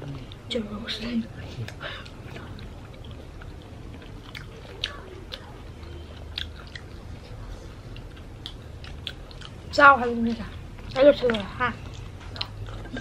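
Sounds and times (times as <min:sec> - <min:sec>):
crunchy food chewing: 0:02.0 - 0:13.0.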